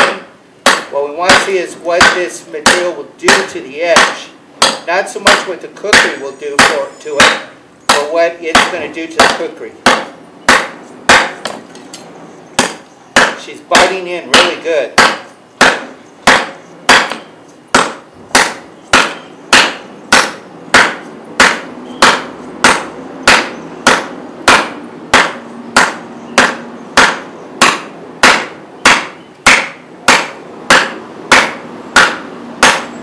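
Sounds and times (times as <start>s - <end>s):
blade chopping wood: 0.0s - 11.6s, 12.6s - 33.0s.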